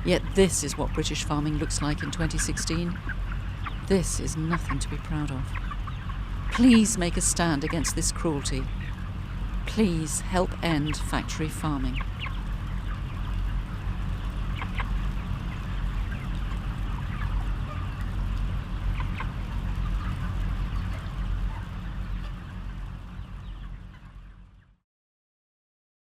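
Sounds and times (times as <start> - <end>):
chickens calling: 0.0 - 24.6
steady low hum: 0.0 - 24.8.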